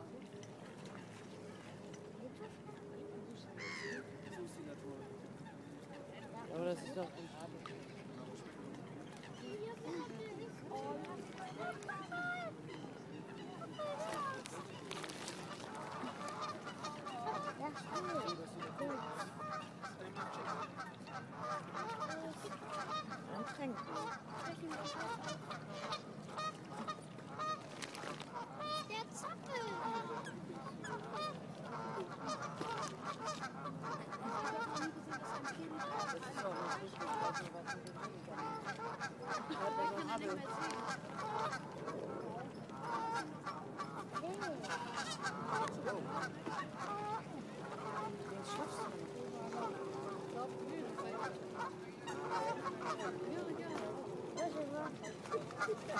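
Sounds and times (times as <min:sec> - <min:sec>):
waterfowl calling: 0:00.8 - 0:55.9.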